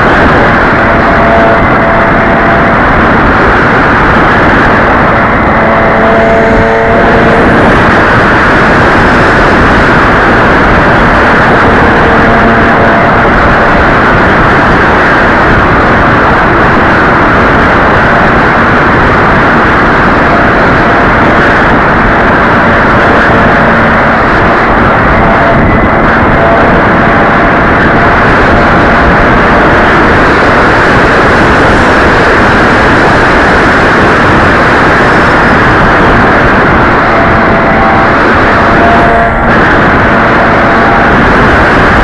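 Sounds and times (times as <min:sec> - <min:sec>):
model plane motor humming: 0:00.0 - 0:42.0
wind buffeting microphone: 0:00.0 - 0:42.0.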